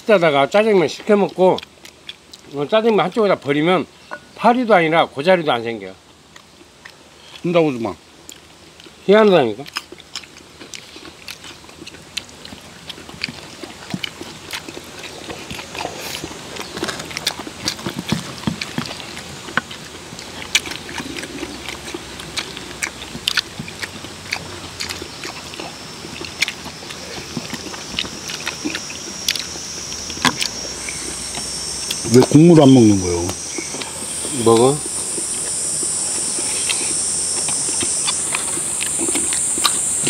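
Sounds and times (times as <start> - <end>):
insect chirring: 0.0 - 40.0
people chewing: 0.0 - 40.0.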